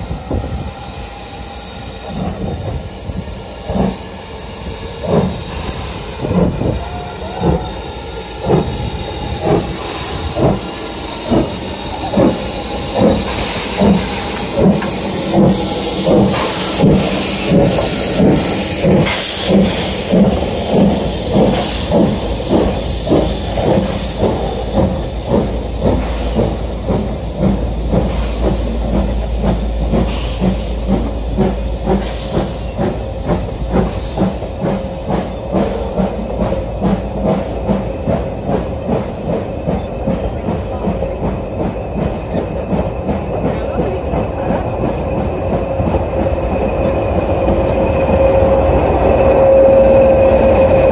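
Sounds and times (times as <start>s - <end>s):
steam hissing: 0.0s - 50.9s
steam locomotive exhaust beats: 0.0s - 50.9s
train wheels clattering: 0.0s - 50.9s.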